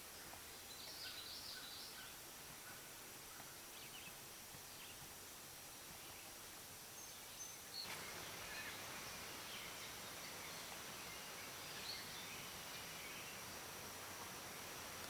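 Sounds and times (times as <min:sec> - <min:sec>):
broad hiss or rustle: 0:00.0 - 0:15.0.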